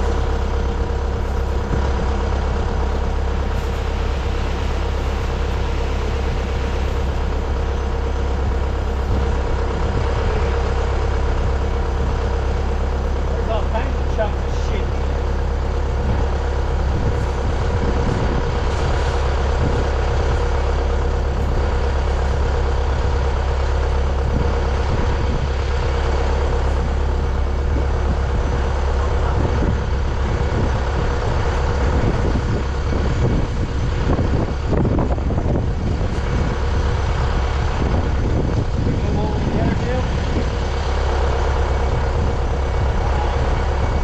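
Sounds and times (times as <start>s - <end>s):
heavy vehicle engine drone: 0.0s - 44.0s
steady whine: 0.0s - 44.0s.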